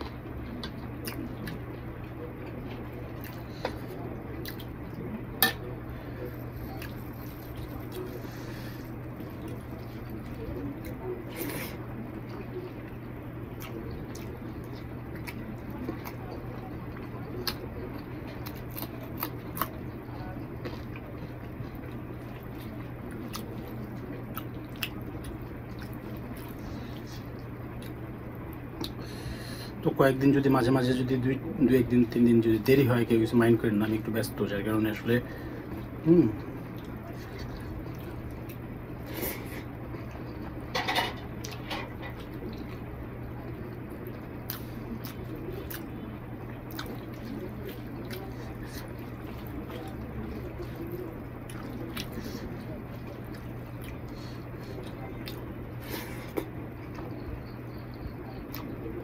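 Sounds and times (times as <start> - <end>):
chewing: 0.0 - 29.7, 35.2 - 59.0
steady low hum: 0.0 - 59.0.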